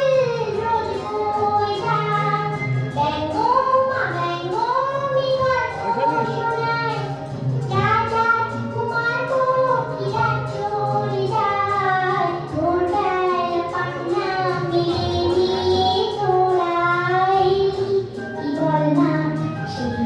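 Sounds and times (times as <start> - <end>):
child singing: 0.0 - 20.0
instrumental backing music: 0.0 - 20.0.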